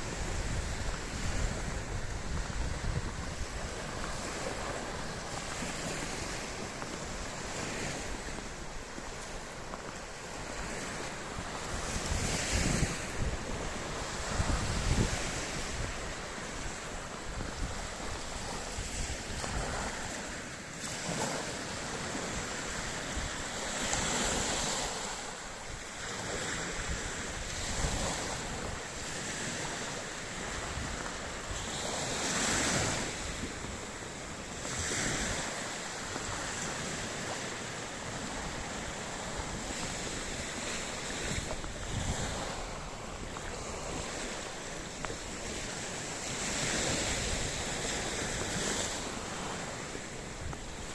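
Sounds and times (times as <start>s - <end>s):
sea waves breaking on shore: 0.0s - 50.9s
wind buffeting microphone: 0.0s - 50.9s.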